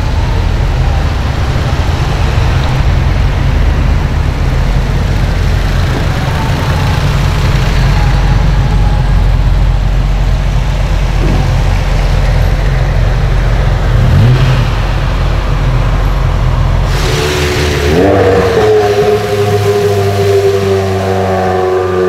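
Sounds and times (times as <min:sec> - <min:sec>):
car engine revving: 0:00.0 - 0:22.0
car engine rumbling: 0:00.0 - 0:22.0.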